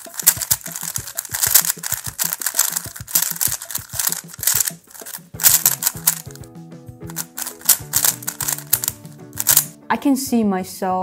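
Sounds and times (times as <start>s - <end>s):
speed cube plastic clicking: 0.0s - 9.8s
background music with steady tones: 0.0s - 11.0s.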